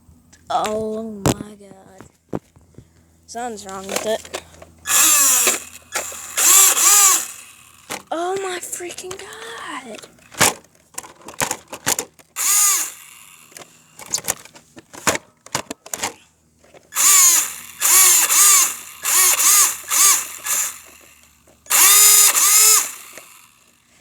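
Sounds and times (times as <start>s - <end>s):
toy car motor whining: 3.5s - 24.0s
sharp clicks: 3.6s - 16.2s, 16.8s - 23.6s.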